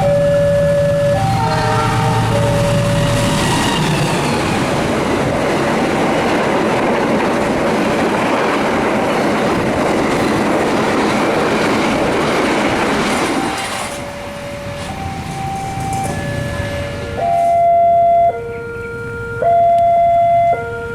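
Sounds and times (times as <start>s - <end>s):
train wheels rushing on rails: 0.6s - 17.6s.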